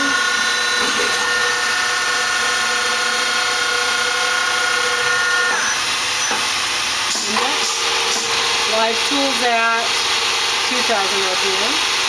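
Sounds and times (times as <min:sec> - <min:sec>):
lathe spindle whine: 0:00.0 - 0:12.0.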